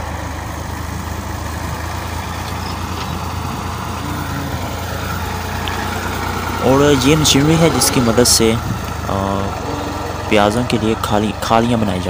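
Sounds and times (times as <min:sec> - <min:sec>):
tractor diesel engine humming: 0:00.0 - 0:12.0.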